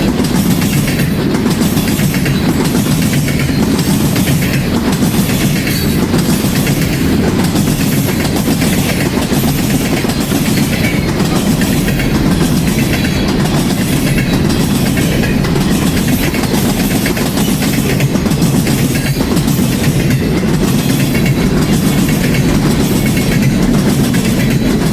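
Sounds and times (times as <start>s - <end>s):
freight train wheels rumbling: 0.0s - 24.9s
rail joints clickety-clack: 0.0s - 24.9s.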